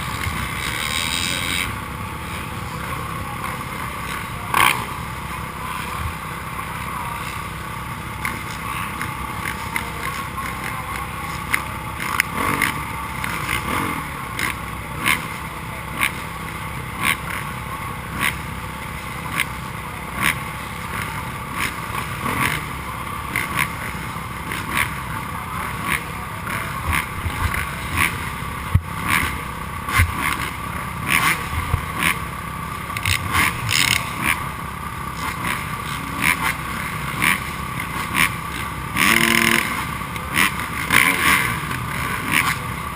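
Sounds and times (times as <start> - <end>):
dirt bike engines droning: 0.0 - 42.9.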